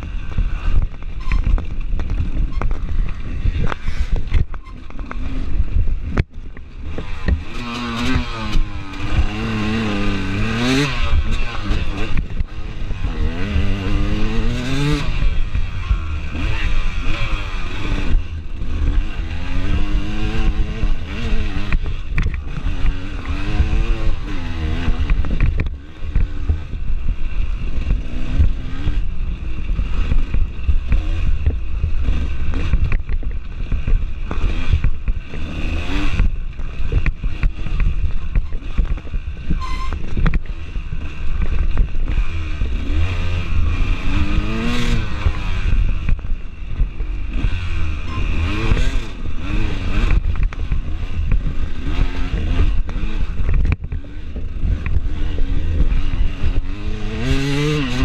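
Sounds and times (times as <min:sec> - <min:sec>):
bike rattling over rough ground: 0:00.0 - 0:58.0
dirt bike engine revving: 0:00.0 - 0:58.0.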